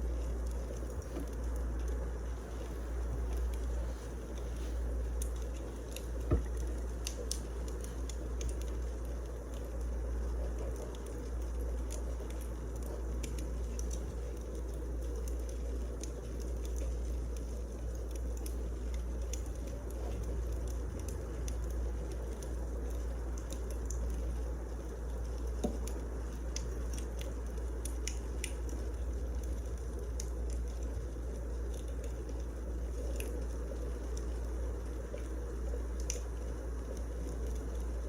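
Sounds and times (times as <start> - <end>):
fire crackles and pops: 0.0 - 38.0
wood fire burning: 0.0 - 38.0.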